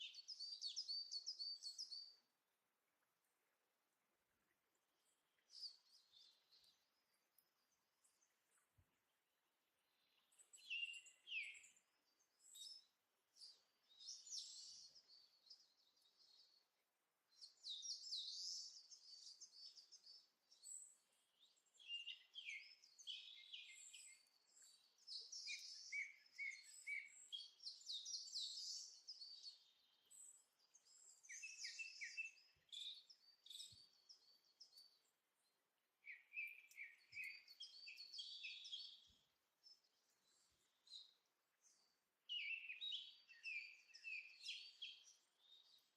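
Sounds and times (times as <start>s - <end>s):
faint birdsong chirping: 0.0s - 45.9s.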